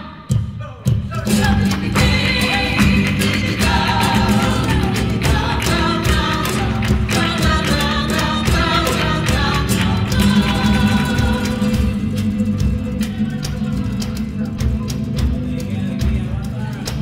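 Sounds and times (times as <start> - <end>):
voices singing: 0.0 - 17.0
guitar: 1.0 - 17.0
sharp percussive strikes: 1.0 - 17.0.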